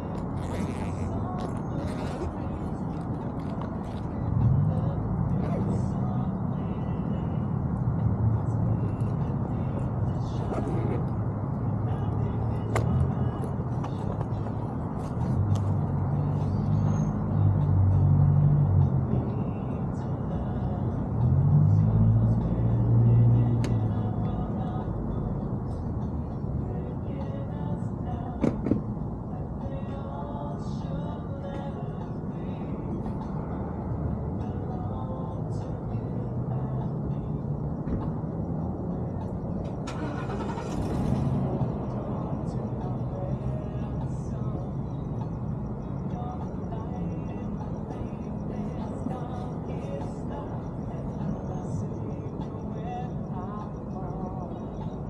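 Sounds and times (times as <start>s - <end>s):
wind and road rush: 0.0s - 55.0s.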